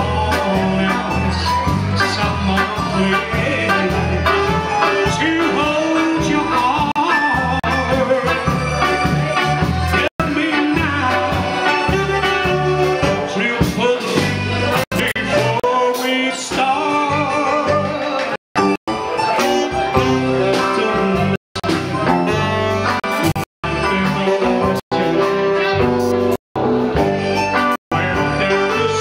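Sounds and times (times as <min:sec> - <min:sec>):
bass notes: 0:00.0 - 0:15.9, 0:16.5 - 0:29.0
man singing: 0:00.0 - 0:25.6, 0:27.9 - 0:29.0.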